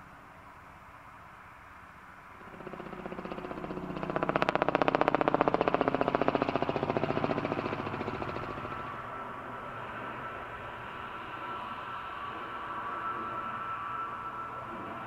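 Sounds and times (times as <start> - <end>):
helicopter rotor chop: 2.3 - 15.0.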